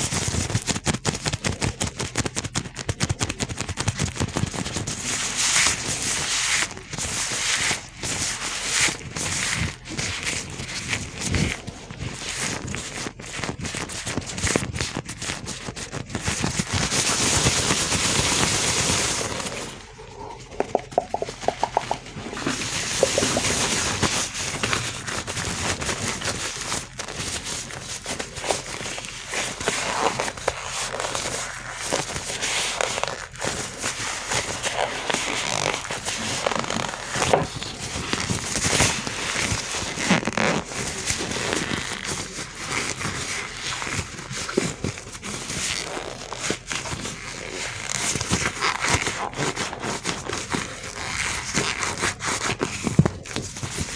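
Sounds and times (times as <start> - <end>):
gloved hands rubbing and crinkling: 0.0 - 53.9.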